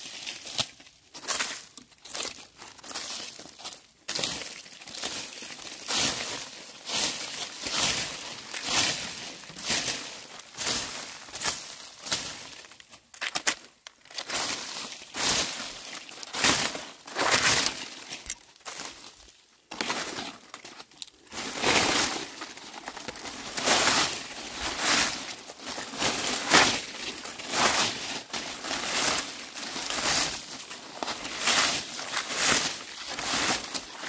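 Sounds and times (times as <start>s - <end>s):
broom sweeping dry leaves: 0.0s - 12.9s, 14.1s - 34.0s.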